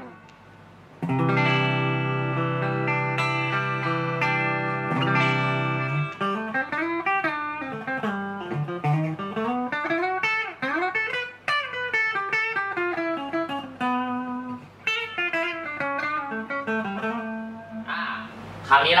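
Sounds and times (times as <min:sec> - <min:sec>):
clean electric guitar melody: 0:00.0 - 0:00.4, 0:01.0 - 0:17.9.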